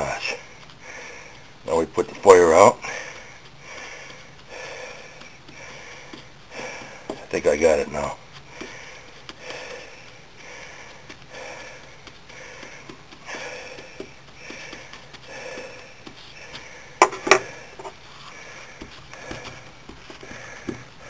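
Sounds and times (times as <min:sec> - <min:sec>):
person breathing hard and sniffing: 0:00.2 - 0:01.6, 0:02.8 - 0:07.3, 0:08.2 - 0:21.0.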